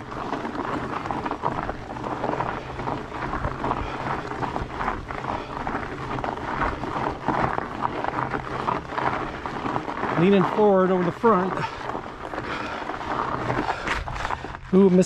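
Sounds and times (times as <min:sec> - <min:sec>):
bike tyres crunching over gravel: 0:00.0 - 0:15.0
low rumble of bike: 0:00.0 - 0:15.0.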